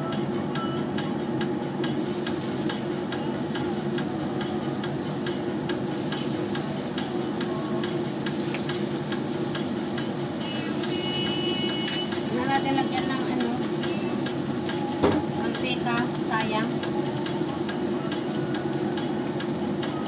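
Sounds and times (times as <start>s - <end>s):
frying oil sizzling and crackling: 1.9s - 20.0s.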